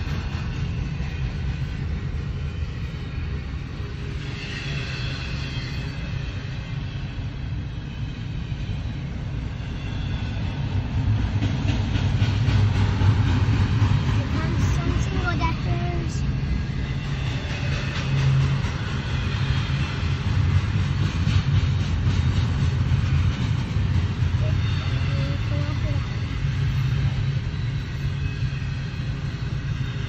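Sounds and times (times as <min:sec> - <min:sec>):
freight train rumbling on rails: 0:00.0 - 0:30.0.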